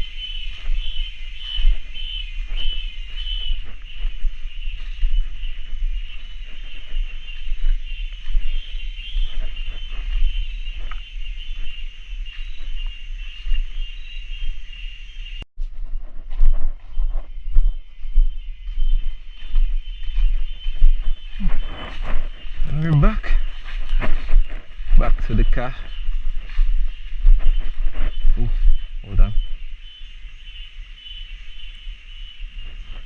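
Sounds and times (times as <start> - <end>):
cicadas calling: 0.0 - 15.5, 16.9 - 33.0.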